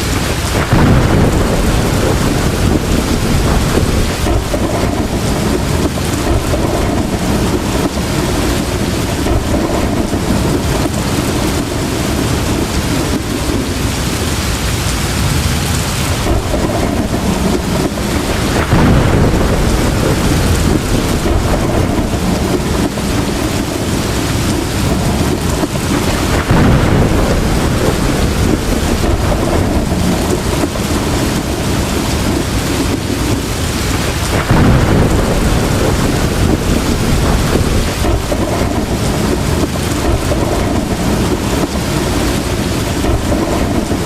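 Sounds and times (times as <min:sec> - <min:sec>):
heavy rain falling: 0:00.0 - 0:44.0
rolling thunder: 0:00.0 - 0:44.0.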